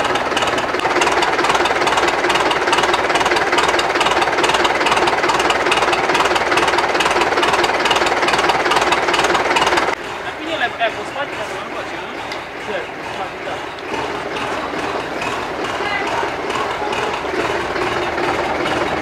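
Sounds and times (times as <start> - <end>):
tractor diesel engine clattering: 0.0 - 19.0.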